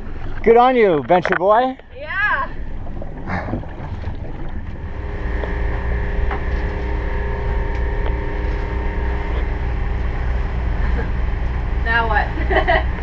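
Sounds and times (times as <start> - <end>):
low motor hum: 0.0 - 13.0
water noise: 0.0 - 13.0
wind: 0.0 - 13.0.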